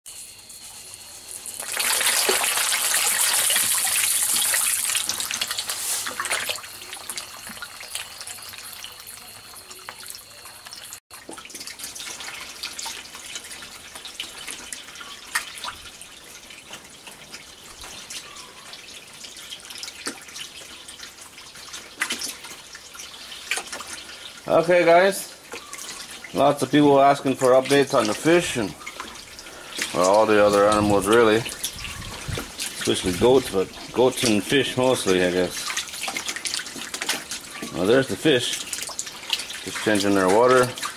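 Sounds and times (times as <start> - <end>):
water from hose splashing: 0.1 - 40.9
water trickling and dripping: 0.1 - 40.9.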